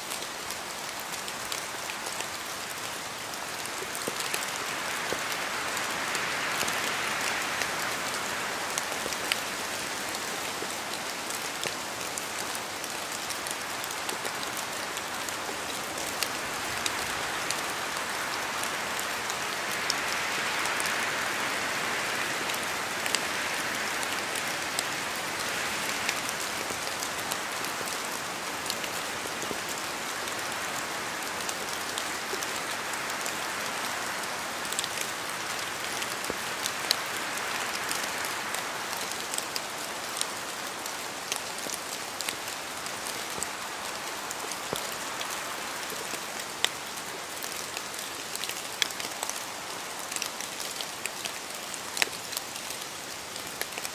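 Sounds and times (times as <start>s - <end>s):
raindrops ticking on surface: 0.0s - 53.9s
steady rain hiss: 0.0s - 53.9s.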